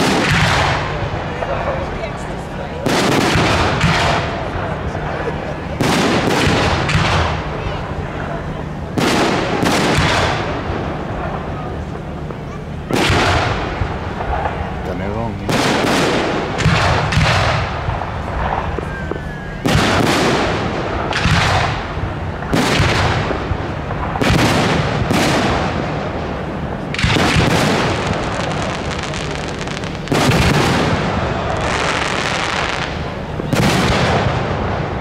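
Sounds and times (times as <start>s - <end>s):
fireworks bursting with echo: 0.0s - 35.0s.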